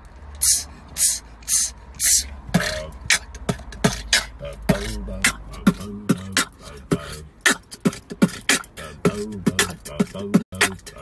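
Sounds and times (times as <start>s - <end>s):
car rumble: 0.0s - 11.0s
person beatboxing: 0.4s - 11.0s.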